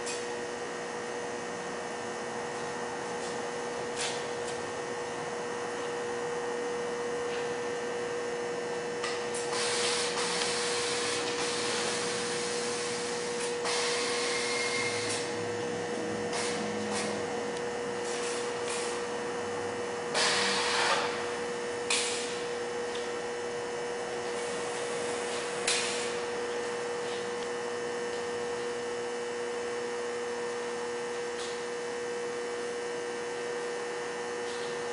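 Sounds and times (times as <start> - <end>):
steady hum: 0.0 - 34.9.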